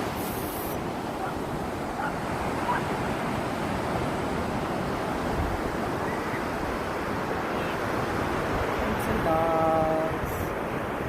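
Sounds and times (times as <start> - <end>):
ocean surf: 0.0 - 11.0
wind buffeting microphone: 0.0 - 11.0.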